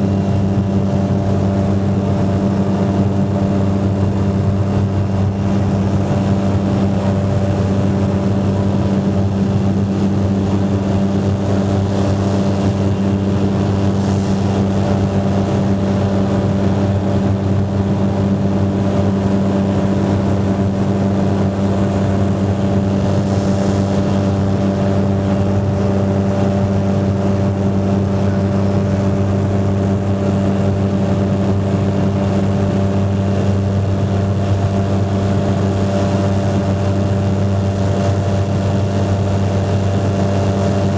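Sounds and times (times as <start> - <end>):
propeller engine running: 0.0 - 40.9.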